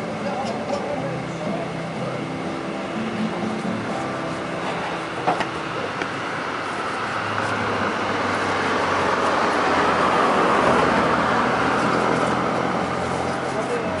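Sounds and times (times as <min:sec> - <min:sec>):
passing motor vehicle: 0:00.0 - 0:14.0.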